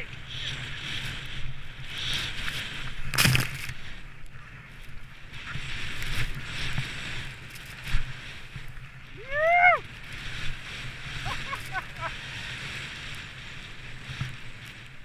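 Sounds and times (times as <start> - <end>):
snow crunch: 0.0 - 15.0
wind rumbling on microphone: 0.0 - 15.0
skis hissing through snow: 0.2 - 15.0.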